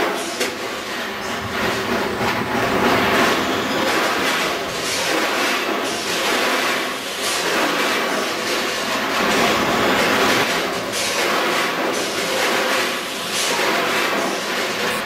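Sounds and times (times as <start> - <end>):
machine clatter and hiss: 0.0 - 15.0.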